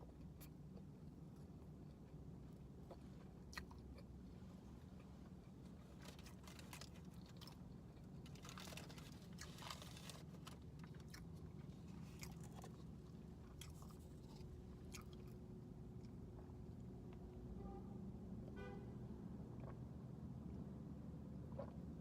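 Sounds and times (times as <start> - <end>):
soft crackly chewing: 0.0 - 17.4, 19.5 - 20.7, 21.4 - 22.0
steady low hum: 0.0 - 22.0.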